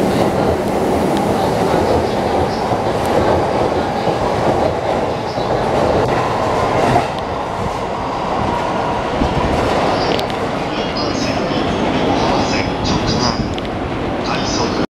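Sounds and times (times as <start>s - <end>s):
electric train passing on rails: 0.0s - 14.9s.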